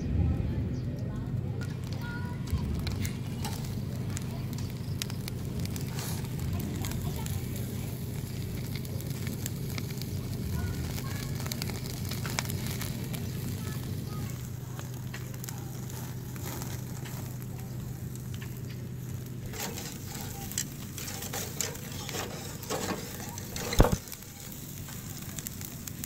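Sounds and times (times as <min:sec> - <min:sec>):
steady low hum: 0:00.0 - 0:26.0
burning coals crackling: 0:00.4 - 0:26.0
fish sizzling on a grill: 0:01.5 - 0:26.0.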